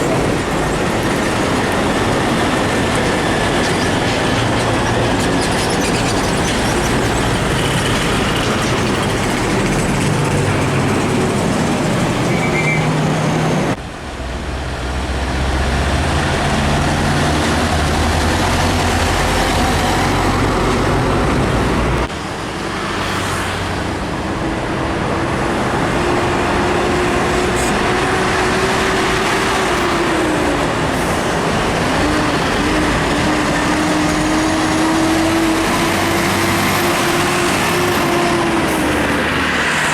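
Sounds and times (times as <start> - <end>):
heavy trucks passing: 0.0 - 39.9.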